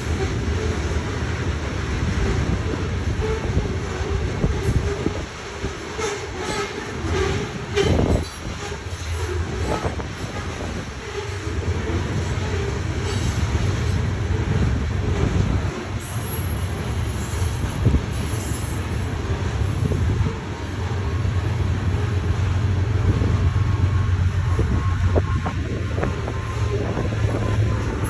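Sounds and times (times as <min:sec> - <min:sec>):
freight train wheels rumbling on rail: 0:00.0 - 0:28.0
train cars knocking: 0:00.0 - 0:28.0.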